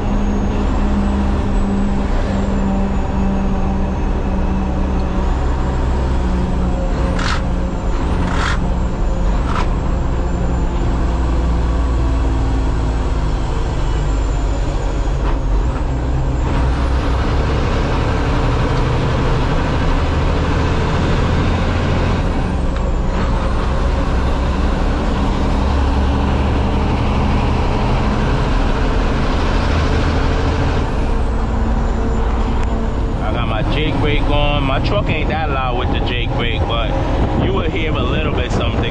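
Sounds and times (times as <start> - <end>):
diesel truck engine running: 0.0 - 38.9
road and wind rushing noise: 0.0 - 38.9.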